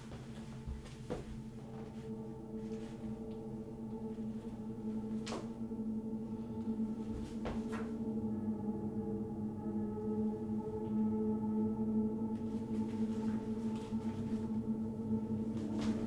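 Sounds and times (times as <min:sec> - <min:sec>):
droning gong-like score: 0:00.5 - 0:16.0.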